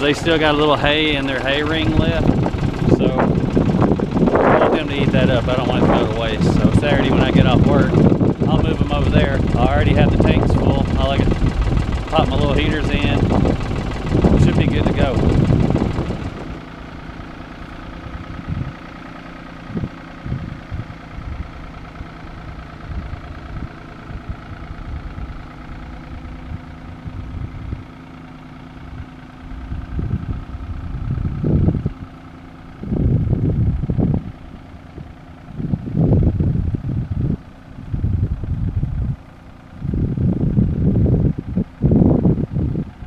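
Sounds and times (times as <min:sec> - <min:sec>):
low rumbling blasts: 0:00.0 - 0:43.0
tractor diesel engine running: 0:00.0 - 0:43.0.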